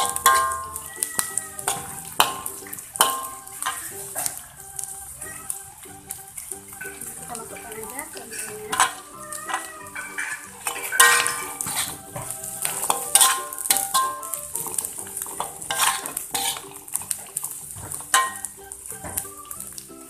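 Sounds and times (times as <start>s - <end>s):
metal spatula scraping a wok: 0.0s - 4.9s, 6.4s - 19.5s
oil sizzling: 0.0s - 20.0s.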